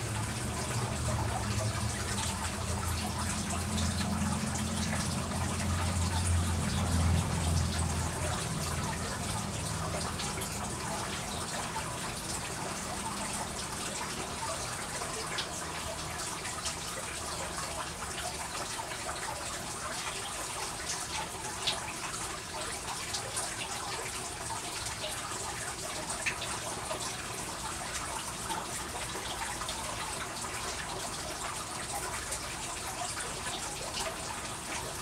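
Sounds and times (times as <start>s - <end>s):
running water splashing: 0.0s - 35.0s.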